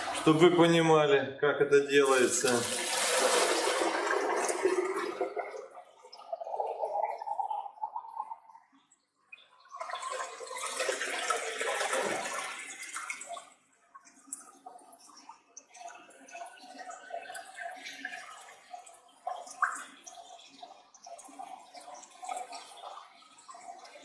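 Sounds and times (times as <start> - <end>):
water pouring and splashing into tub: 0.0 - 0.9, 1.9 - 24.0.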